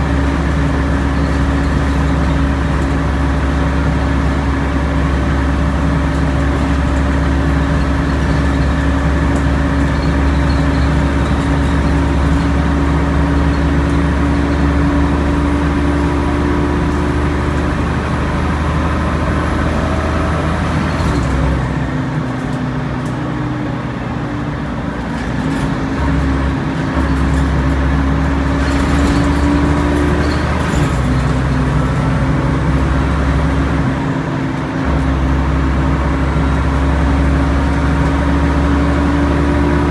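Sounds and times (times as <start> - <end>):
bus engine whining uphill: 0.0 - 39.9.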